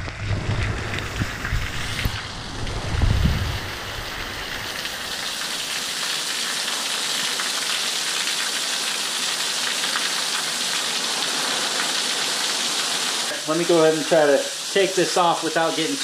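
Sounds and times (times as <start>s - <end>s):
heavy rain downpour: 0.0s - 16.0s.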